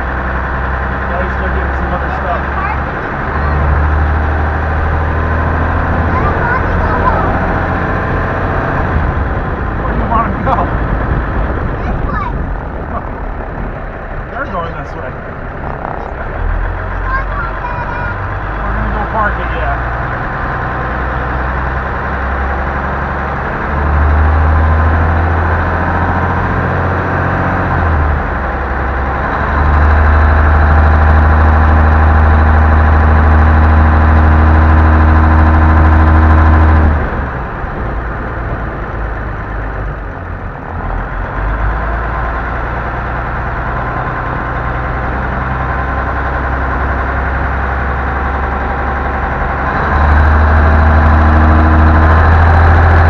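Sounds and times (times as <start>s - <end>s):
truck diesel engine rumbling: 0.0s - 53.0s.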